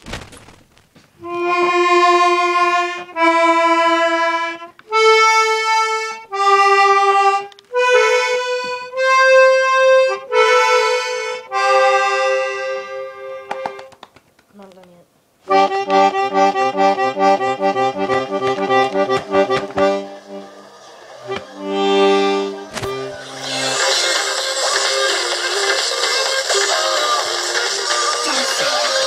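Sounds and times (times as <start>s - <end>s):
accordion playing held notes: 1.2s - 13.9s, 15.5s - 29.0s.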